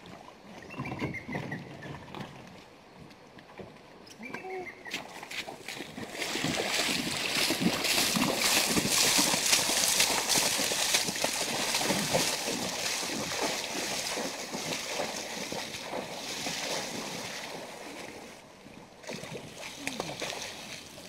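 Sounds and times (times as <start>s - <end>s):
river water splashing: 0.0s - 21.0s.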